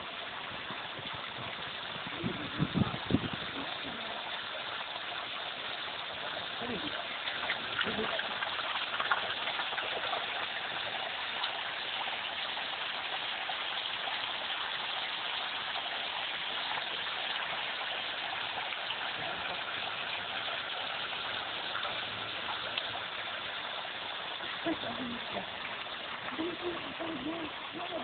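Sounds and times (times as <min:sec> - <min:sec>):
water gushing into a pool: 0:00.0 - 0:28.0.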